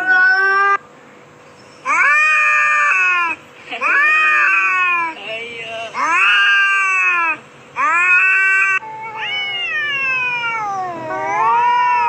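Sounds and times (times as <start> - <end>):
cats yowling: 0.0 - 0.8, 1.9 - 5.1, 6.0 - 12.0.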